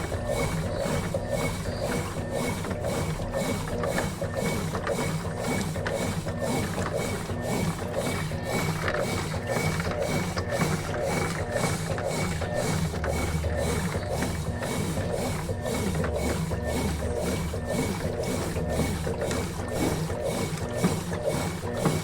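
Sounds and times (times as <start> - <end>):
low motor hum: 0.0 - 22.0
washing machine drum churning: 0.0 - 22.0.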